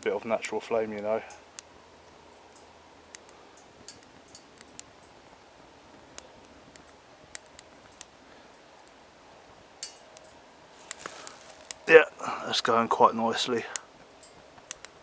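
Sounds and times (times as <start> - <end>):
faint steady hiss: 0.0 - 15.0
wood fire crackling and popping: 0.0 - 15.0.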